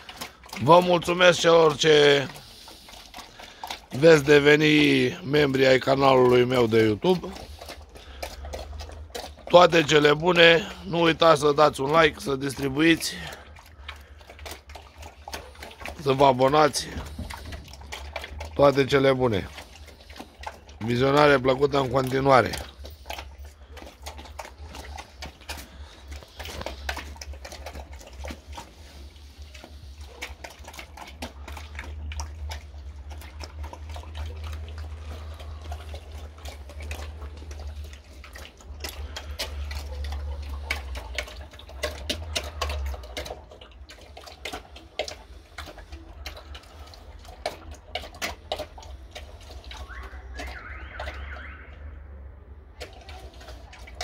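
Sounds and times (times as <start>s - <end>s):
pig slurping and chewing: 0.0s - 54.0s.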